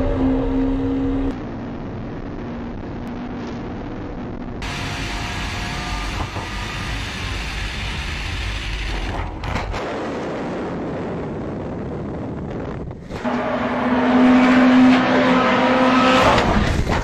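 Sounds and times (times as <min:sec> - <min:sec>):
wind and road rush: 0:00.0 - 0:17.0.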